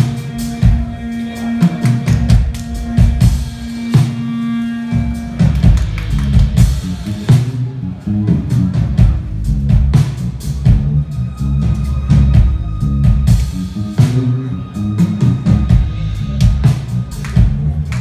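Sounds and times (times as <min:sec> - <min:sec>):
bass line: 0:00.0 - 0:18.0.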